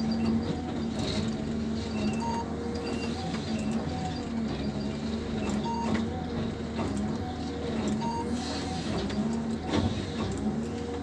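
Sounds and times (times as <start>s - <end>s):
engine and hydraulic hum: 0.0s - 11.0s.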